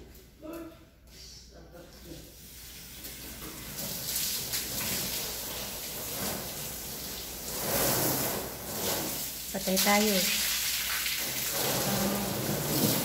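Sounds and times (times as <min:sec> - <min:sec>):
hose water spraying on car: 0:02.3 - 0:13.0.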